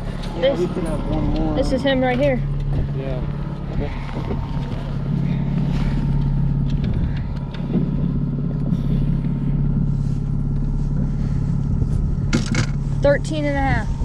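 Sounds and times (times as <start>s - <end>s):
outboard motor humming: 0.0s - 14.0s.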